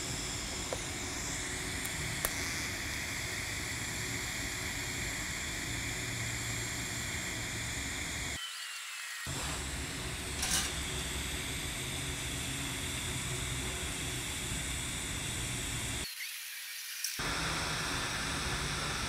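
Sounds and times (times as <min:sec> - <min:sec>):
welding arc hissing: 0:00.0 - 0:19.0.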